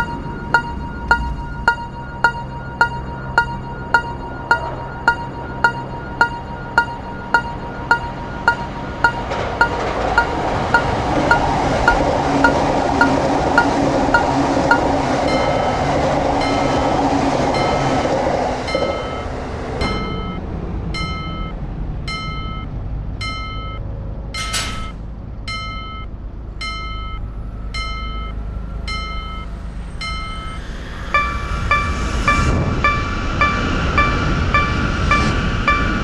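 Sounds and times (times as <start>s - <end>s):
level crossing bell ringing: 0.0s - 23.8s, 25.5s - 36.0s
passing train rumble: 0.0s - 26.6s, 27.2s - 36.0s.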